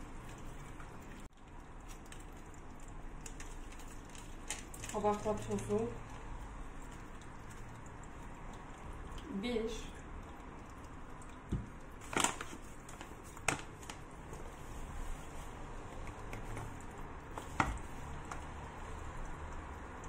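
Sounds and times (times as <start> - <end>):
dough mixing rustling and squishing: 0.0 - 20.0.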